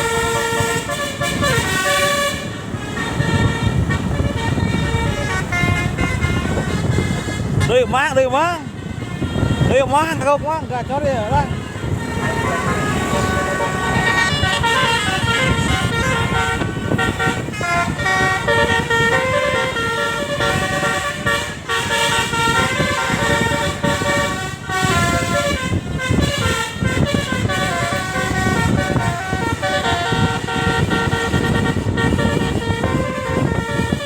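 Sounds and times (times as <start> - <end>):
musical bus air horns: 0.0 - 34.0.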